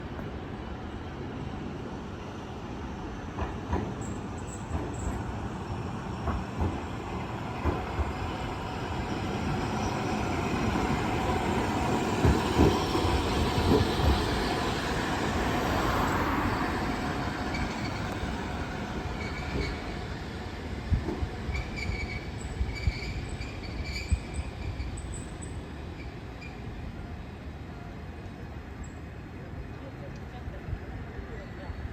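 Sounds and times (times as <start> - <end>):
streetcar running noise: 0.0 - 31.9.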